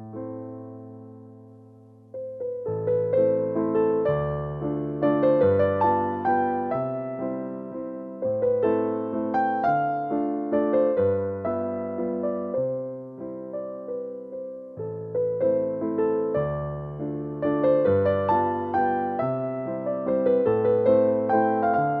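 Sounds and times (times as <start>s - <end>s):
gentle electric piano melody: 0.0s - 22.0s.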